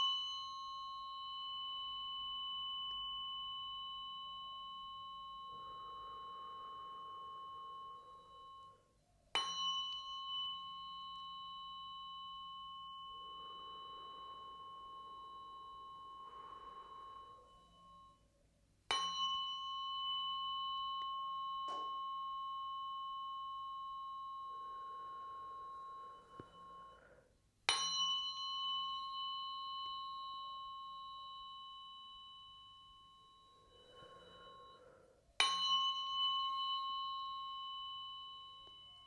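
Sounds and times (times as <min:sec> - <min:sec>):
tuning fork ringing: 0:00.0 - 0:39.0.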